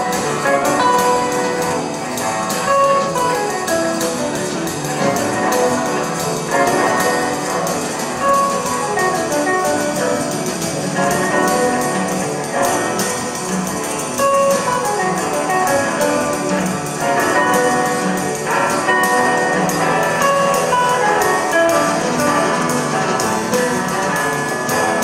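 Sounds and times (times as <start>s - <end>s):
drum kit: 0.0s - 25.0s
electric guitars: 0.0s - 25.0s
maracas shaken: 0.0s - 25.0s.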